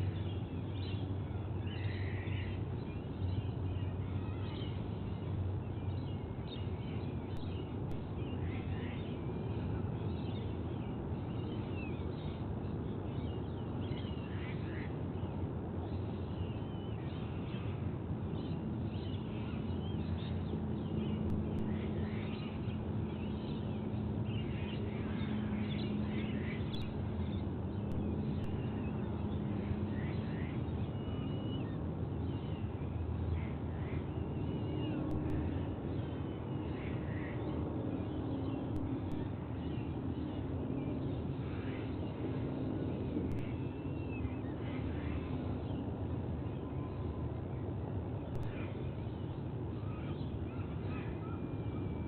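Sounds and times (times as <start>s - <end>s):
low steady hum: 0.0s - 52.0s
steady background noise: 0.0s - 52.0s.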